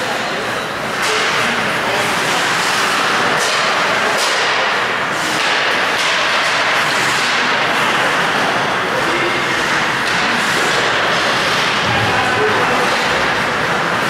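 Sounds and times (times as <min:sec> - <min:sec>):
hockey sticks and puck clacking: 0:00.9 - 0:14.0.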